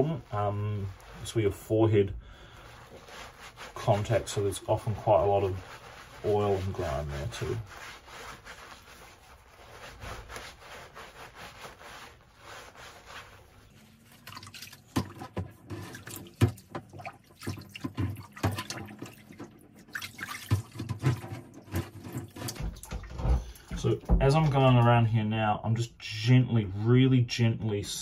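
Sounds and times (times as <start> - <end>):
loofah scrubbing padded lining: 0.0 - 24.0
water splashing and sloshing: 0.0 - 25.0.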